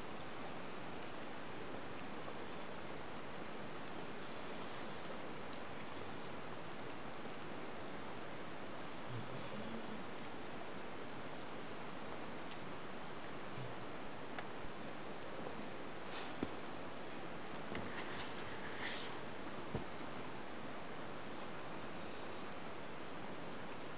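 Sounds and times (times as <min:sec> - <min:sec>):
steady hiss: 0:00.0 - 0:23.9.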